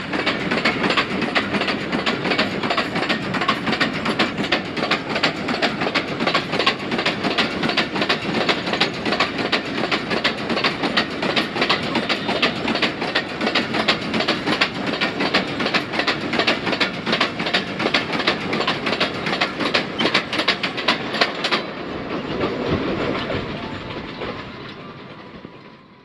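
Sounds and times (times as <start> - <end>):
train rumble: 0.0 - 26.0
train wheels clicking: 0.0 - 26.0.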